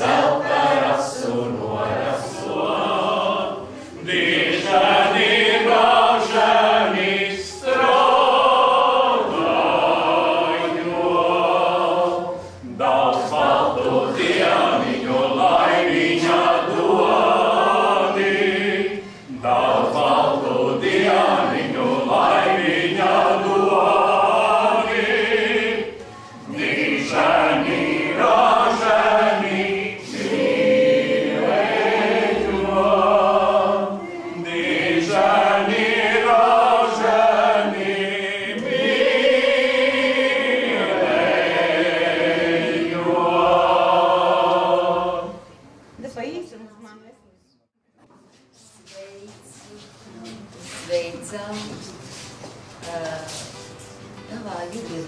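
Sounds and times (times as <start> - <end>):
group singing unaccompanied: 0.0 - 45.8.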